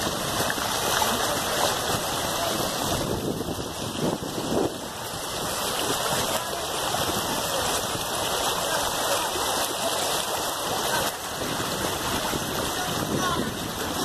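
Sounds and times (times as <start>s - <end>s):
river water rushing over stones: 0.0s - 14.0s.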